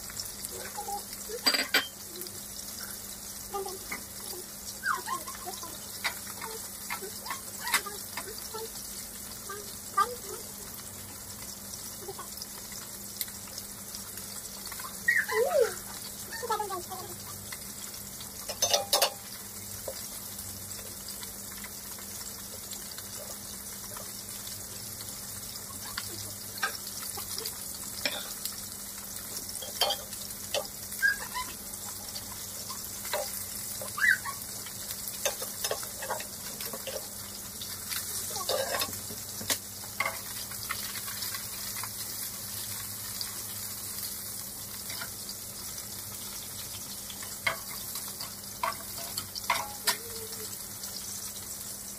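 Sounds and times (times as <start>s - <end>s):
fish sizzling in hot oil: 0.0s - 51.9s.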